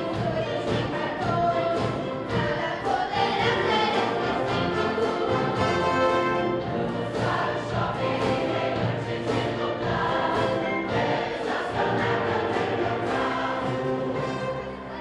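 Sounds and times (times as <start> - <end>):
concert band playing: 0.0 - 14.9
choir singing: 0.0 - 15.0.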